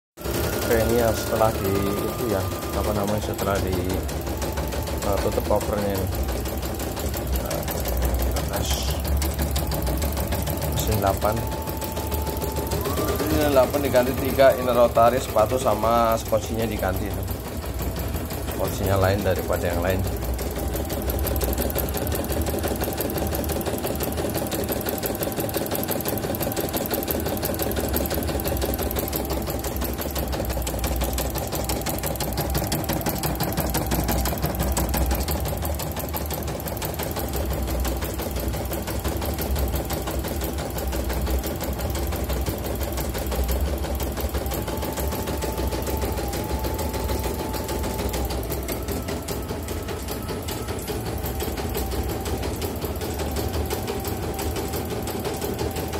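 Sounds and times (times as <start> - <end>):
embroidery machine stitching: 0.2 - 55.9.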